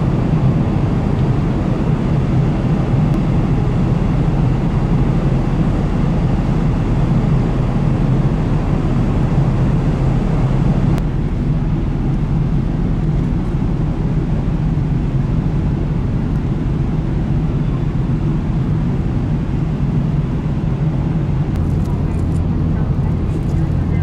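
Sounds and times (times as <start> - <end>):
ferry engines rumbling: 0.0 - 24.0.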